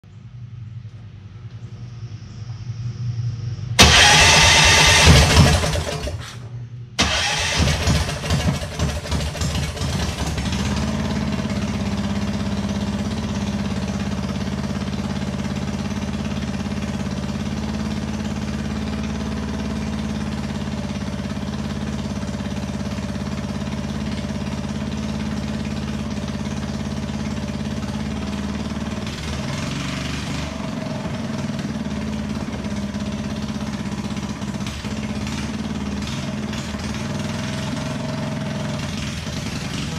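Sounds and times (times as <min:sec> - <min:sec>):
small engine sputtering and idling: 0:02.3 - 0:39.9.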